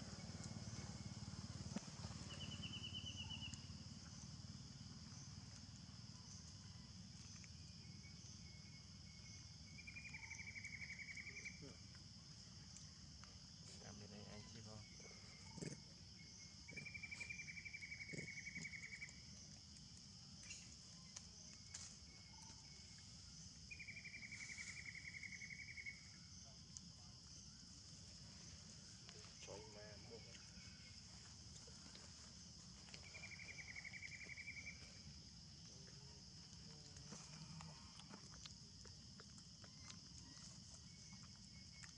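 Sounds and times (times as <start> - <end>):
faint insect drone: 0.0 - 41.9
insect pulsed trills: 0.0 - 41.9.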